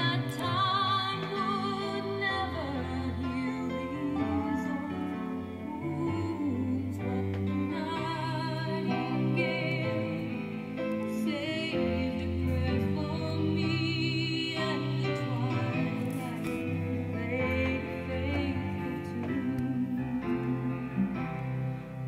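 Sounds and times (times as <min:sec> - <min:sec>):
woman singing with vibrato: 0:00.0 - 0:21.3
instrumental backing: 0:00.0 - 0:22.0.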